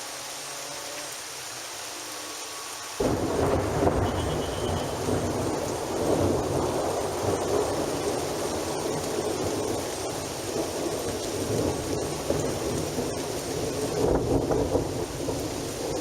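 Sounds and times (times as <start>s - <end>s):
steady rain: 0.0s - 16.0s
thunder rumbling: 3.0s - 16.0s.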